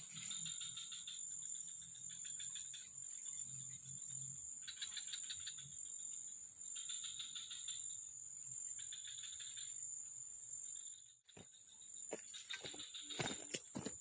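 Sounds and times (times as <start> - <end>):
insects droning: 0.0 - 14.0
insect pulsing trill: 0.1 - 14.0.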